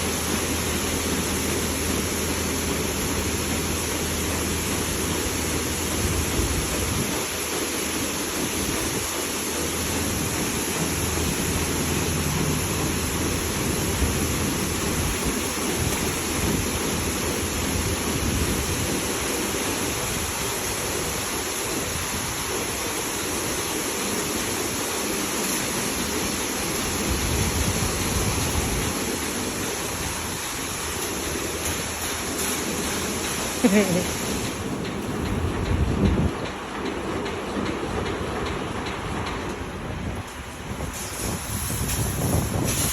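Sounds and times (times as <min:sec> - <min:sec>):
car wash water spray: 0:00.0 - 0:36.3, 0:37.8 - 0:42.9.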